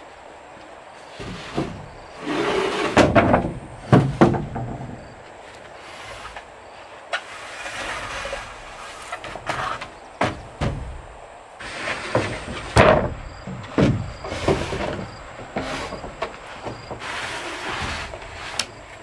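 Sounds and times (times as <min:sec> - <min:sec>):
board scraping along another board: 0:01.0 - 0:19.0
wooden boards knocking together: 0:01.1 - 0:06.5, 0:07.2 - 0:19.0.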